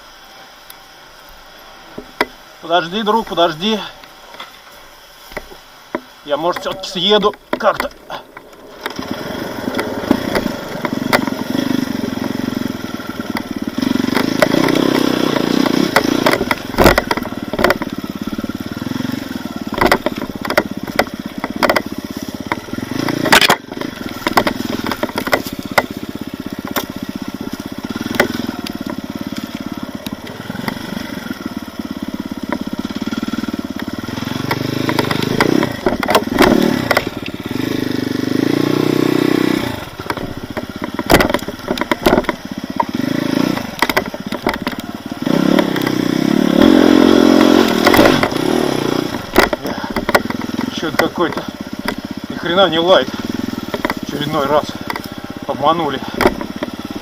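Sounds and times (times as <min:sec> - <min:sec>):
off-road vehicle engine at low revs: 0:00.0 - 0:57.0
scraping and clatter over rough ground: 0:00.0 - 0:57.0.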